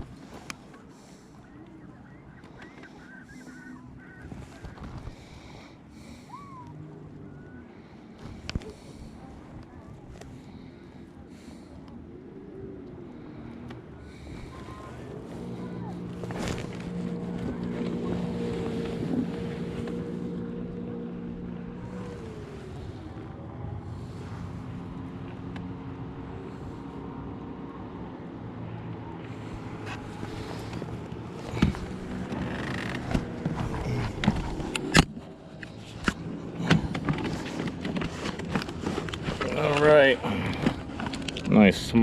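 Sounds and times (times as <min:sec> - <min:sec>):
motorboat engine running: 0:00.0 - 0:42.0.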